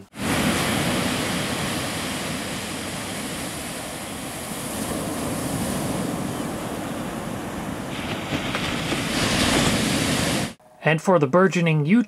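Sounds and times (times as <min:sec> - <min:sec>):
ocean waves breaking on beach: 0:00.0 - 0:10.6.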